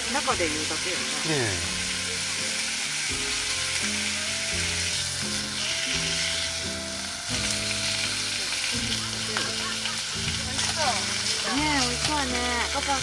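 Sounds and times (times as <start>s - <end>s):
background music: 0.0s - 13.0s
steak sizzling in a pan: 0.0s - 13.0s.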